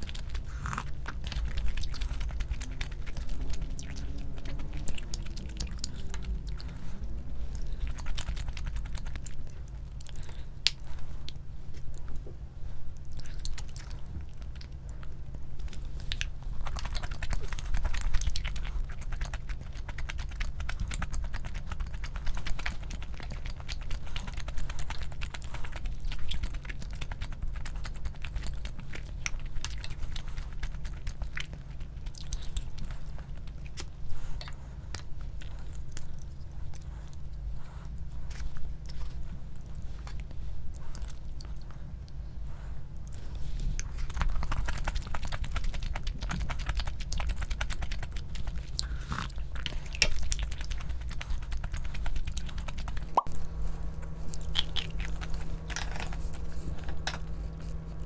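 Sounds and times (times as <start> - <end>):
chewing and biting: 0.0 - 58.0
low hum: 0.0 - 58.0.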